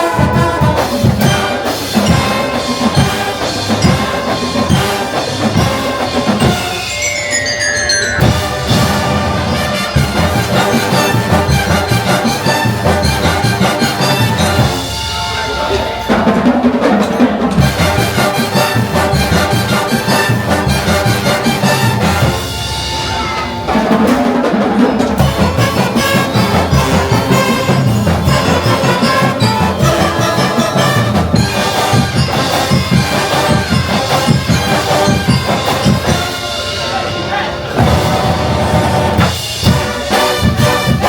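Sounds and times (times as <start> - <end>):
marching drums: 0.0 - 7.2, 8.2 - 41.0
brass bugles playing: 0.0 - 16.7, 17.6 - 24.1, 25.2 - 41.0.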